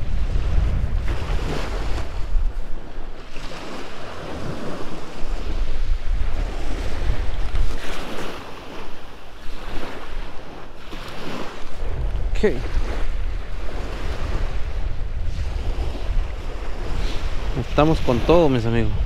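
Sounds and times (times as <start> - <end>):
small waves breaking on sand: 0.0 - 19.0
wind buffeting microphone: 0.0 - 19.0.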